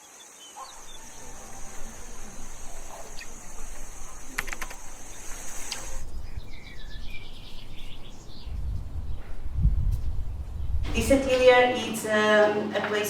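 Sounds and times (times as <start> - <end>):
steady high-pitched hiss: 0.0 - 12.8
low rumble: 0.7 - 11.6.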